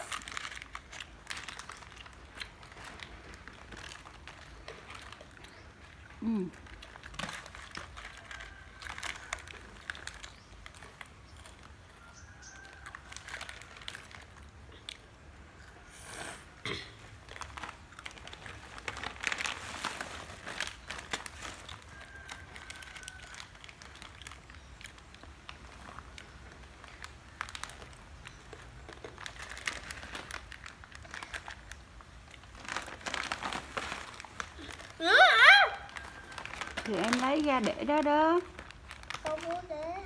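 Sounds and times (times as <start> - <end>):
crunchy snack being chewed: 0.0 - 39.8
plastic snack packet crinkling: 0.0 - 40.0.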